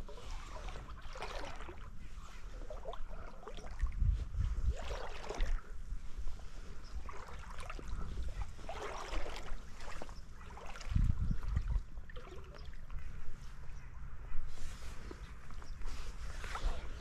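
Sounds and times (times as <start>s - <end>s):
creek water trickling and splashing: 0.0s - 13.6s, 15.0s - 17.0s.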